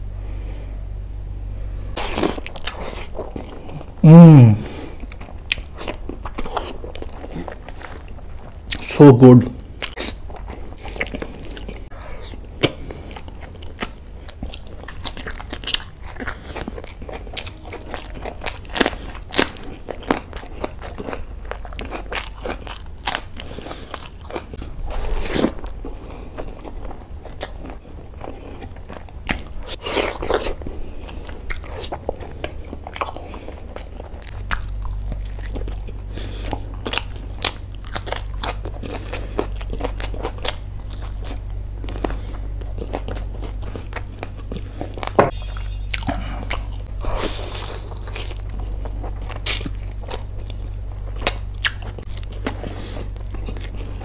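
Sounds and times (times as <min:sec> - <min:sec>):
low hum: 0:00.0 - 0:05.4, 0:06.5 - 0:22.9, 0:32.2 - 0:54.0
man chewing food: 0:01.4 - 0:54.0.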